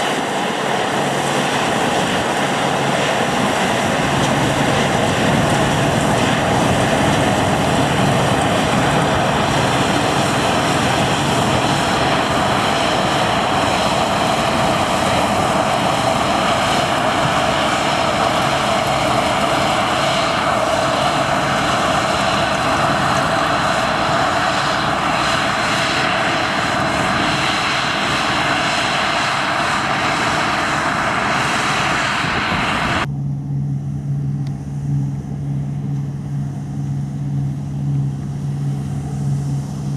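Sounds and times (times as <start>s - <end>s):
harvest machinery running: 0.0s - 39.9s
low engine hum: 0.0s - 39.9s.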